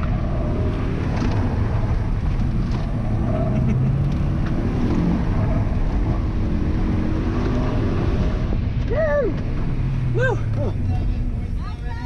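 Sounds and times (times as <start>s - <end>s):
car engine revving: 0.0s - 12.0s
road and wind noise: 0.0s - 12.0s.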